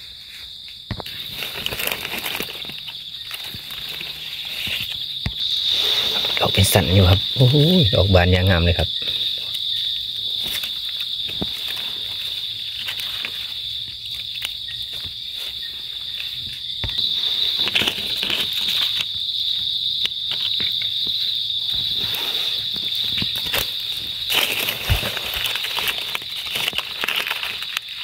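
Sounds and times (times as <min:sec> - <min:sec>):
footsteps in dry leaves: 0:00.0 - 0:06.6, 0:09.2 - 0:19.3, 0:21.7 - 0:28.0
forest insects chorus: 0:00.0 - 0:28.0
hands rustling dry leaves: 0:00.0 - 0:28.0.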